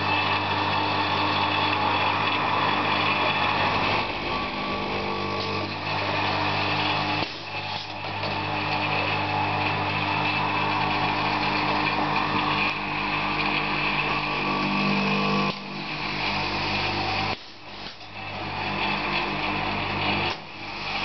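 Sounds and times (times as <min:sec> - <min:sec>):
grinding machine running: 0:00.0 - 0:21.0.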